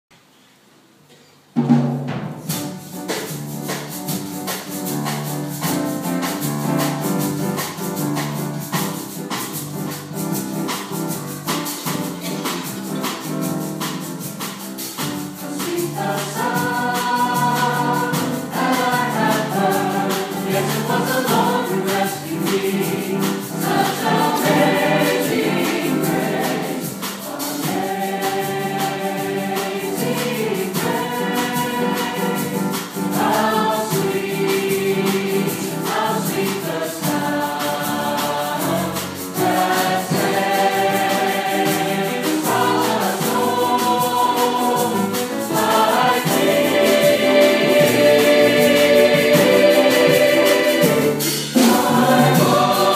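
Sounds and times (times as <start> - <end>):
mixed choir singing gospel: 2.8 - 52.9.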